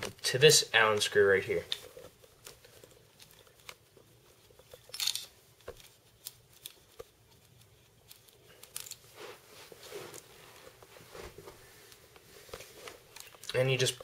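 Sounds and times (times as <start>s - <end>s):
soft rubbing: 1.1s - 13.2s.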